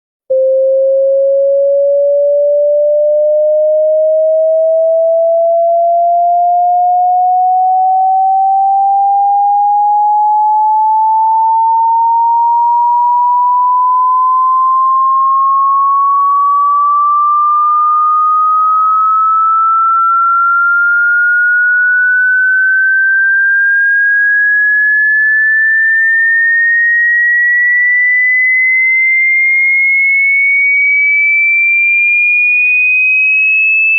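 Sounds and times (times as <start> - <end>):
sine tone sweeping upward: 0.3 - 33.9.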